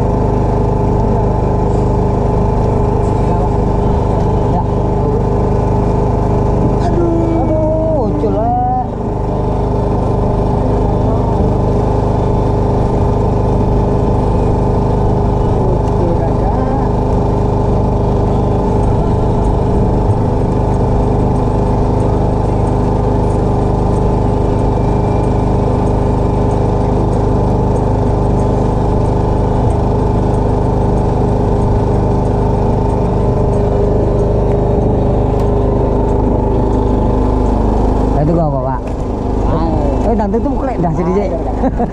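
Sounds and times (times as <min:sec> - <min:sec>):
small boat engine running: 0:00.0 - 0:41.9.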